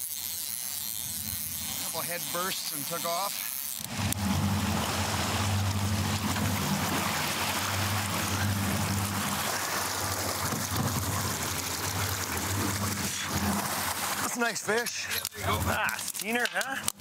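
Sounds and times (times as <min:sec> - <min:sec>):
outboard motor humming: 0:00.0 - 0:17.0
water rushing in boat wake: 0:01.4 - 0:16.0.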